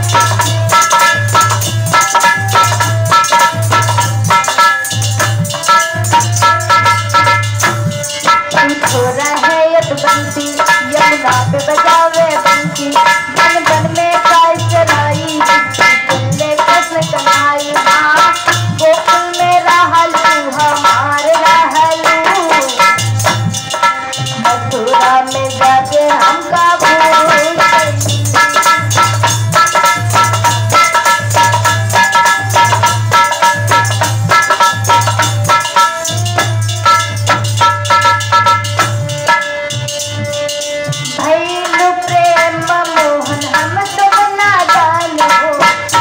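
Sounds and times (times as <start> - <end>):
hand drum strokes: 0.0 - 46.0
harmonium: 0.0 - 46.0.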